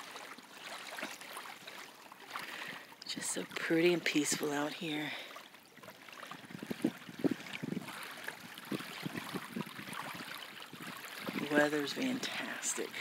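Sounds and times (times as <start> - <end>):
waves lapping against shore: 0.0 - 13.0.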